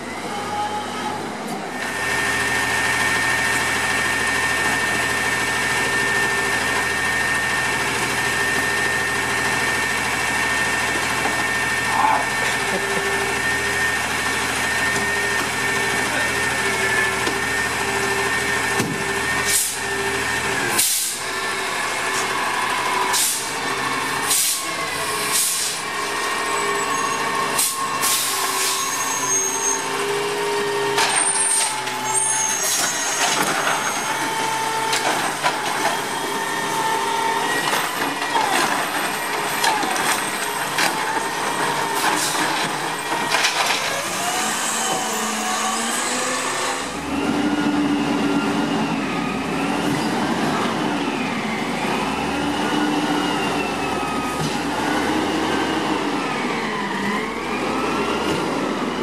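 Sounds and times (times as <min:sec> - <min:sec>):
garbage truck engine whine: 0:00.0 - 0:59.0.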